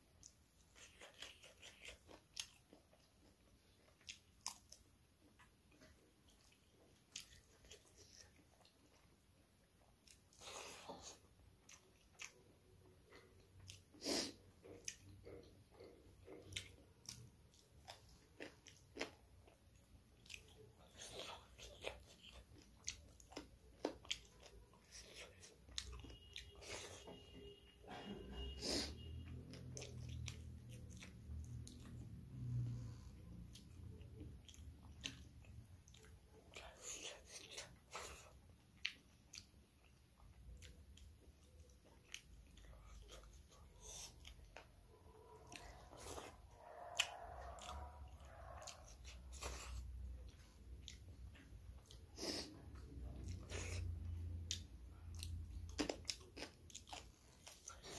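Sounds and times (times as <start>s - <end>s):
person chewing: 0.1s - 57.9s.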